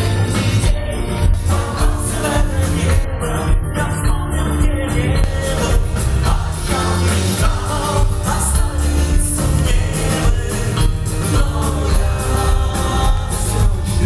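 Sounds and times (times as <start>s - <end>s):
live rock band playing: 0.0s - 14.0s
person singing: 0.0s - 14.0s.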